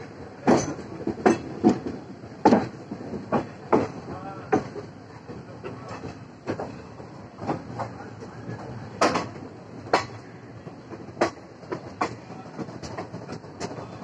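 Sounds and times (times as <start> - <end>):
train rolling rumble: 0.0 - 14.0
train wheels clacking over rail joints: 0.0 - 14.0.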